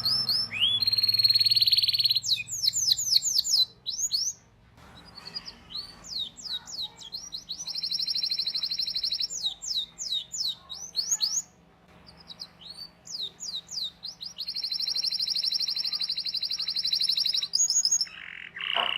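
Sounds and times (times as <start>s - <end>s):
canary singing: 0.0s - 18.9s.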